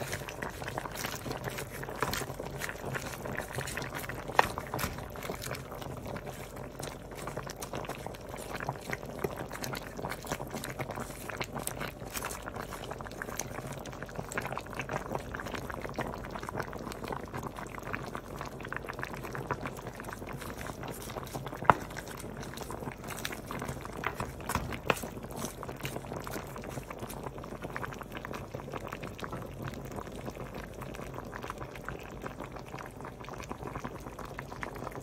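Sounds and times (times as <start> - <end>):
stew bubbling and popping: 0.0 - 35.0.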